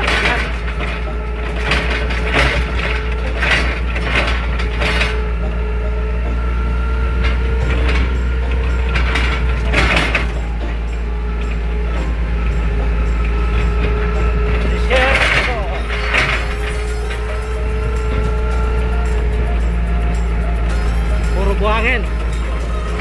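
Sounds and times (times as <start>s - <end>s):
forklift engine running: 0.0s - 23.0s
forklift mast rattling and clanking: 0.0s - 23.0s.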